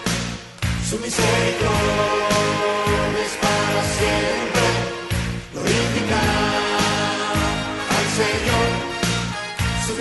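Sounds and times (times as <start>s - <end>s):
steady drum beat: 0.0s - 10.0s
worship song by band: 0.0s - 10.0s.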